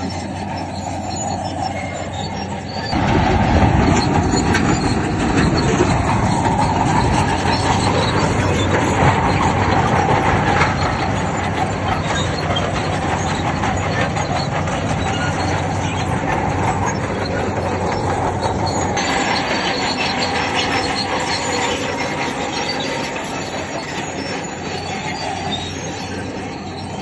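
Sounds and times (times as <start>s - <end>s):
diesel engine running: 0.0s - 27.0s
steel tracks squealing and clanking: 0.0s - 27.0s.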